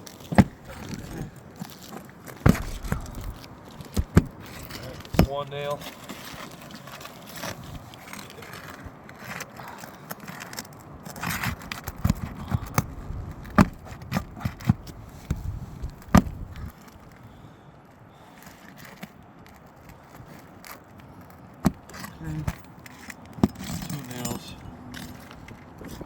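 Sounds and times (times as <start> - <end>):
tool scraping under shingles: 0.0 - 17.5, 18.2 - 26.0.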